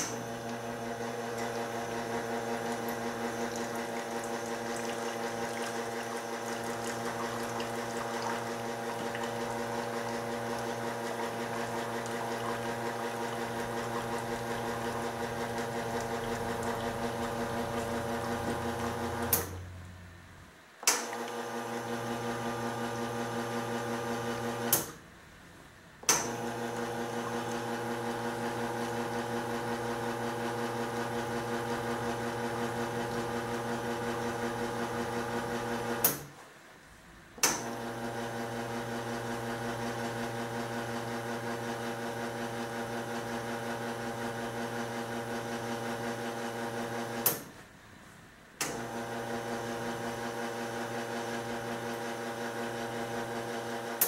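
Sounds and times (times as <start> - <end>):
espresso machine pump humming: 0.0 - 19.4, 21.2 - 24.7, 26.3 - 36.0, 37.6 - 47.2, 48.7 - 54.0.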